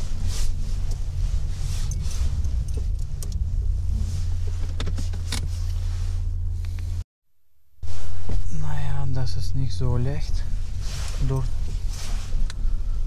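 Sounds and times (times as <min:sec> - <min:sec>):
car engine low rumble: 0:00.0 - 0:07.0, 0:07.8 - 0:13.0.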